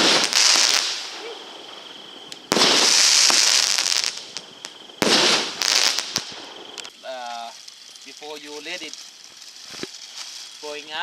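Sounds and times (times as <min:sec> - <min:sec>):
fireworks fizzing and crackling: 0:00.0 - 0:11.0.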